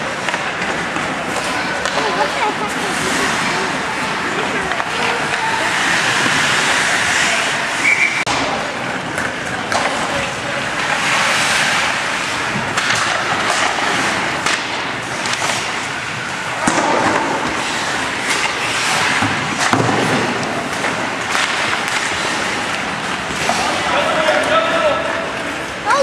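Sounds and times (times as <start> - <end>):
skates scraping on ice: 0.0 - 8.2, 8.8 - 25.2
puck striking sticks and boards: 0.0 - 25.6.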